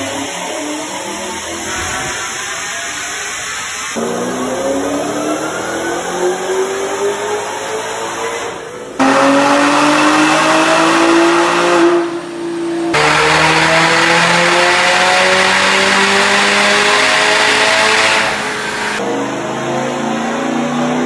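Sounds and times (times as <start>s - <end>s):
car engine revving at full throttle: 0.0s - 21.0s.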